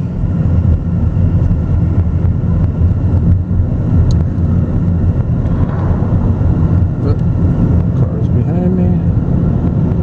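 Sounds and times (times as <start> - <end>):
car road and wind rumble: 0.0 - 10.0.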